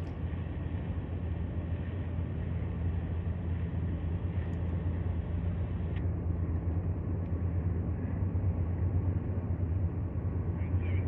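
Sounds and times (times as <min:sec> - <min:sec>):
deep engine drone: 0:00.0 - 0:11.0.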